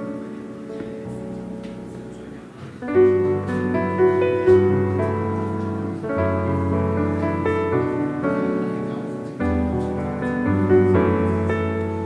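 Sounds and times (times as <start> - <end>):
instrumental piano music: 0.0 - 12.0.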